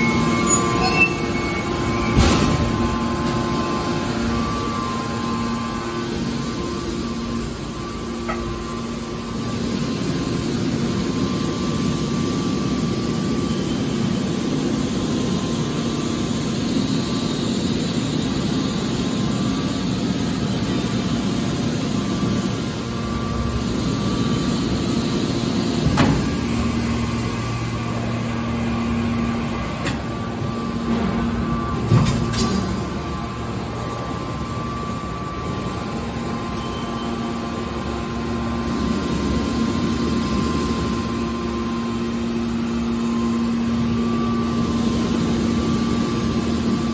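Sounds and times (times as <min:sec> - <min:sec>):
hydraulic machine humming: 0:00.0 - 0:46.9.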